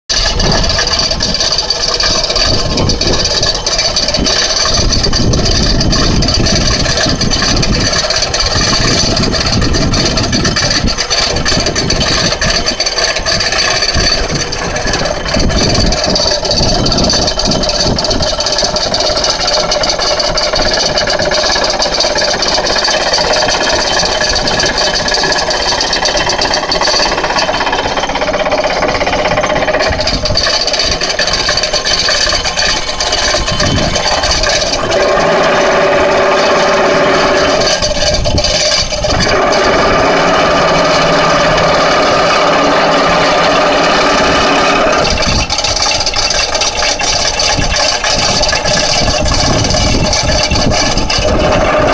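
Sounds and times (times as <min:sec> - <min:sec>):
excavator engine under load: 0:00.0 - 0:51.9
vibratory pile driver rattling: 0:00.0 - 0:51.9.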